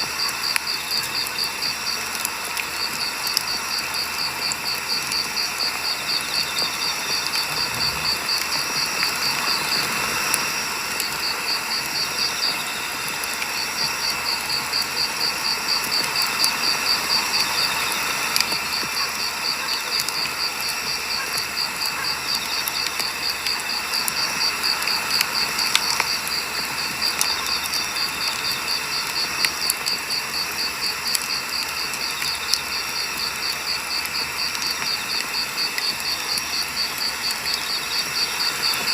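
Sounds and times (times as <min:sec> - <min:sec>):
cricket chirping: 0:00.0 - 0:38.9
firewood crackling and popping: 0:00.0 - 0:38.9.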